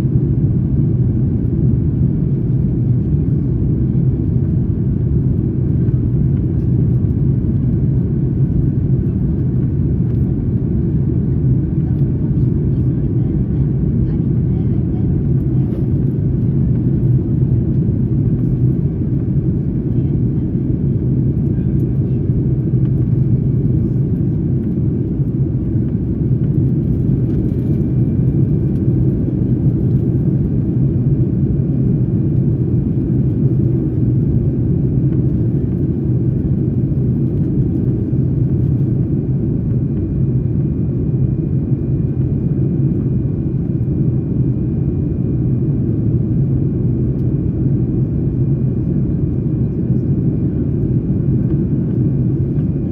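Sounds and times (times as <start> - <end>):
jet engine rumble inside cabin: 0.0 - 52.9.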